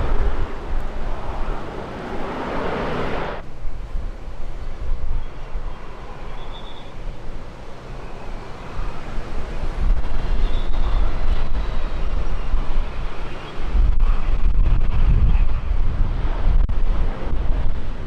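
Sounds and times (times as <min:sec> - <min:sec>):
jet engines rumbling: 0:00.0 - 0:18.0
wind buffeting microphone: 0:00.0 - 0:18.0.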